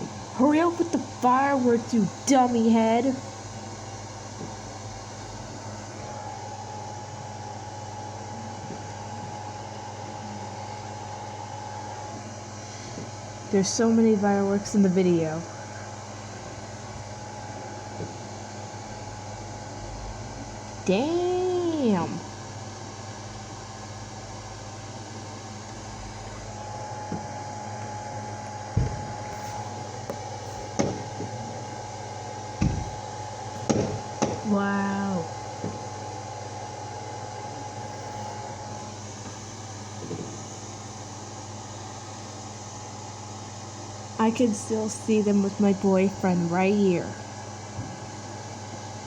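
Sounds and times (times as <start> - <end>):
mechanical hum and hiss: 0.0 - 49.0
thin steady whine: 0.0 - 49.0.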